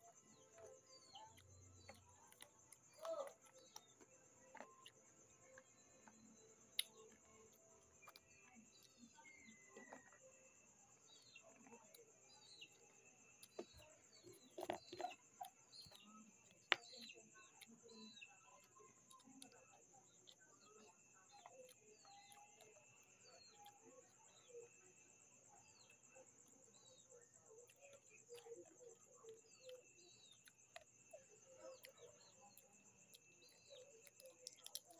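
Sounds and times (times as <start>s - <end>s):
eating crispy food: 0.0s - 10.2s, 10.9s - 24.7s, 25.6s - 34.9s
night insects droning: 0.0s - 34.9s.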